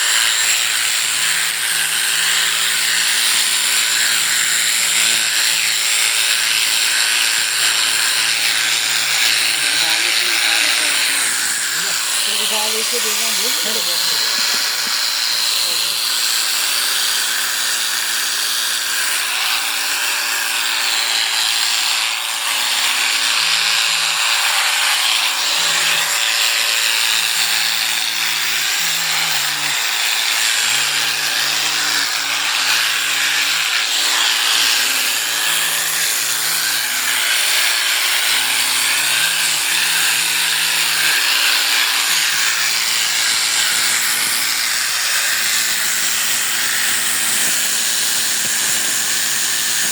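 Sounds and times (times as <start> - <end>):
electric clippers shearing fleece: 0.0 - 49.9.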